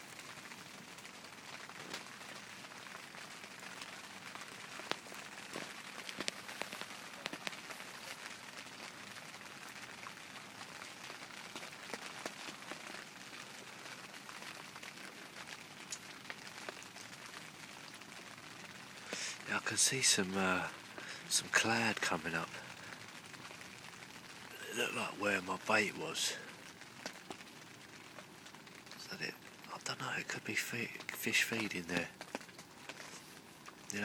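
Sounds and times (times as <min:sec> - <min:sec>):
light rain pattering: 0:00.0 - 0:34.0
sharp rain drop ticks: 0:00.0 - 0:34.0.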